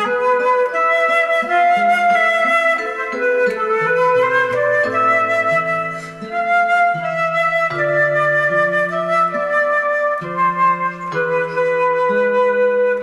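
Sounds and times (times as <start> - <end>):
flute melody: 0.0 - 13.0
sustained accompaniment notes: 0.0 - 13.0.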